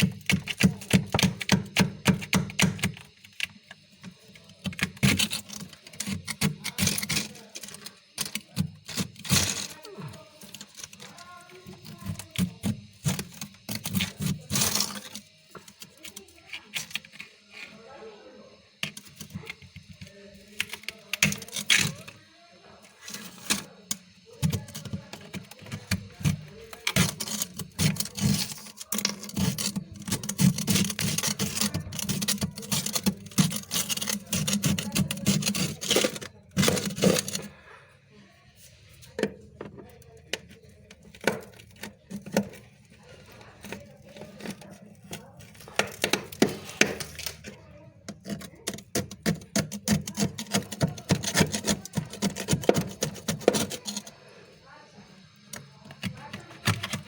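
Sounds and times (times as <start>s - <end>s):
frost crunching: 0.0s - 17.9s, 18.6s - 37.9s, 38.6s - 54.4s.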